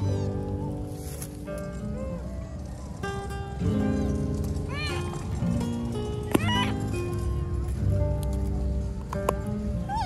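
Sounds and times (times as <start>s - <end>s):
background music held notes: 0.0s - 10.0s.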